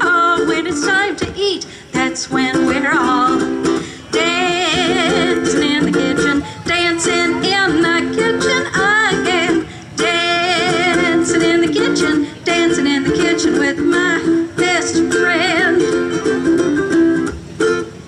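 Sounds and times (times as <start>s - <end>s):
woman singing with vibrato: 0.0s - 16.6s
strummed ukulele: 0.0s - 18.0s.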